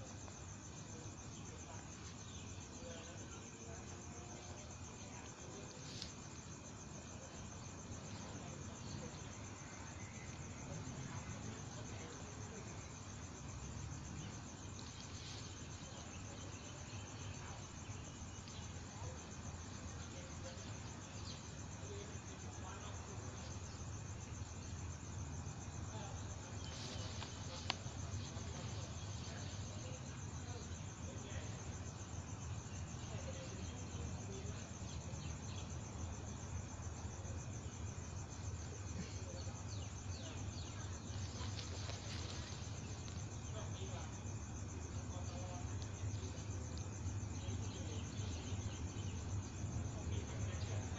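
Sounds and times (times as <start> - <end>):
crickets chirring: 0.0 - 50.9.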